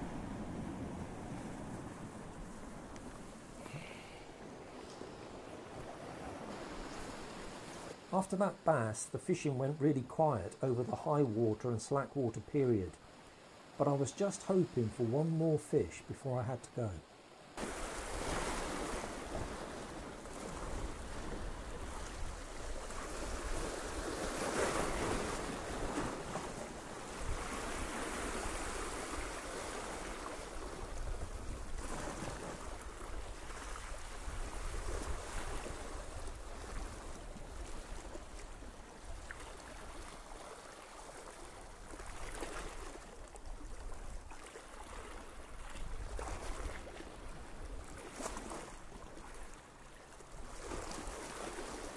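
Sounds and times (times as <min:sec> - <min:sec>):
sea waves washing over rocks: 0:00.0 - 0:08.9, 0:16.8 - 0:49.5.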